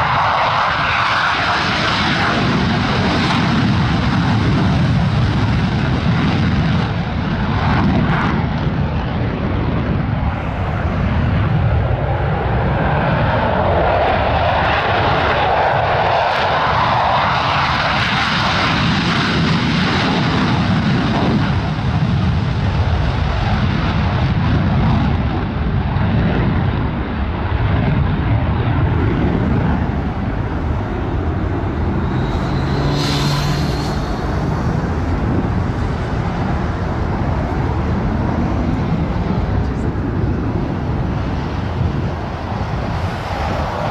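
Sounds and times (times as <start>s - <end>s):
aircraft engine rumble: 0.0s - 43.9s.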